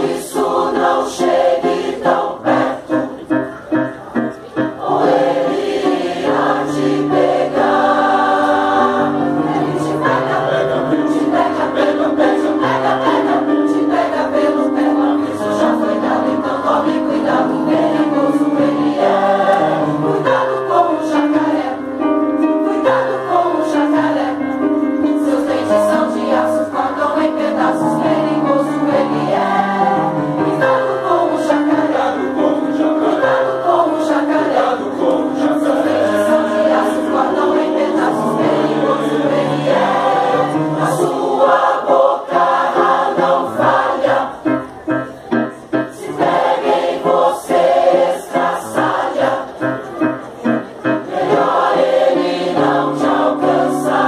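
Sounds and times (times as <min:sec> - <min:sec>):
mixed choir singing: 0:00.0 - 0:03.5, 0:04.6 - 0:44.6, 0:45.5 - 0:54.0.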